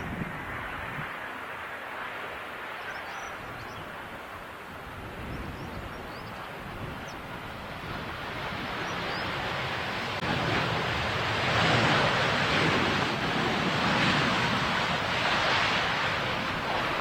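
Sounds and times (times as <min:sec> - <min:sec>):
wind buffeting microphone: 0:00.0 - 0:01.3, 0:02.8 - 0:17.0
jet airliner passing: 0:00.0 - 0:17.0.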